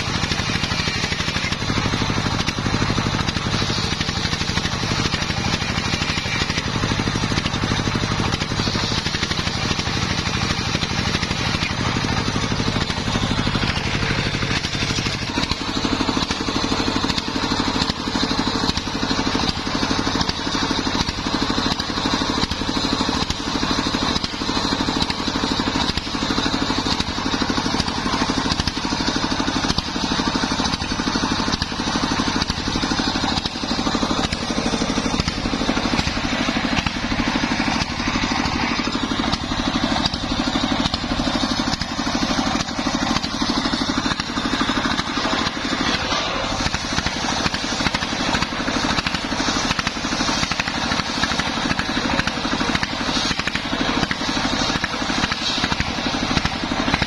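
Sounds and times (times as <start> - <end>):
circular saw cutting wood: 0.0 - 57.0
engine thumping: 0.0 - 57.0
saw blade spinning free: 0.0 - 57.0.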